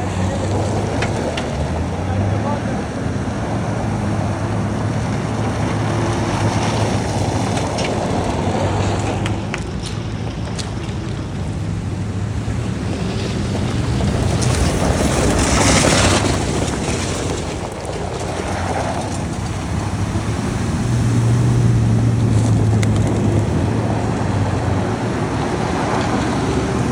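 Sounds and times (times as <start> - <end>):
off-road vehicle engine running: 0.0 - 26.9
water splashing: 0.0 - 26.9
wind on microphone: 0.0 - 26.9.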